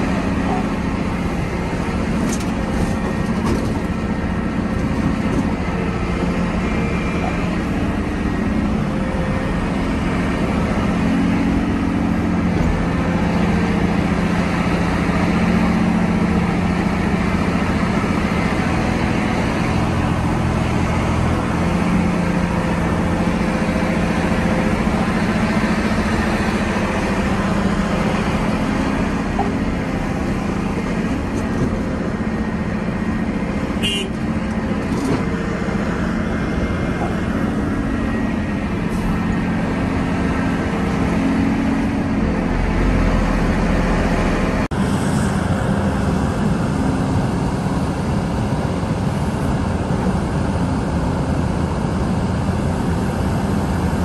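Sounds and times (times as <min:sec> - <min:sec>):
excavator diesel engine under load: 0:00.0 - 0:54.0.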